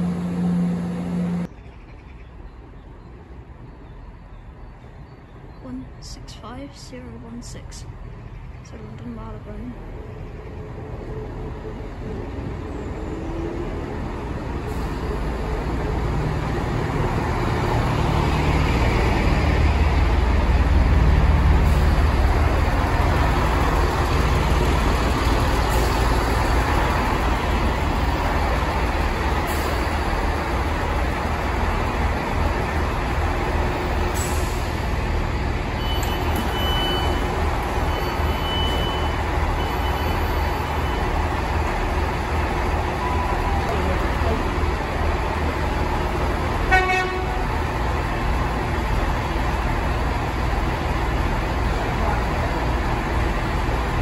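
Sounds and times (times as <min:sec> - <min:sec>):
diesel train engines rumbling: 0:00.0 - 0:01.6, 0:02.3 - 0:54.0.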